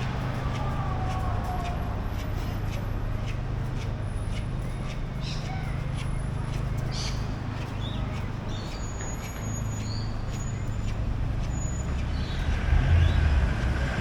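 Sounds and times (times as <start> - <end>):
heavy vehicle passing: 0.0 - 14.0
traffic engines and tyres rumbling: 0.0 - 14.0.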